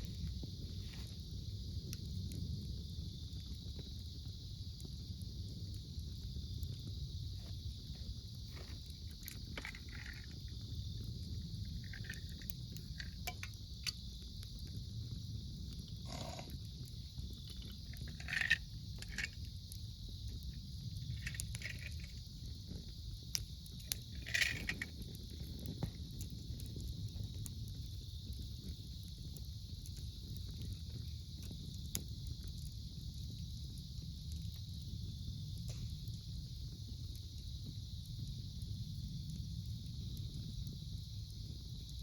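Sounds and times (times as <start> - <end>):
insects chirping: 0.0 - 42.0
wood fire crackling: 0.0 - 42.0.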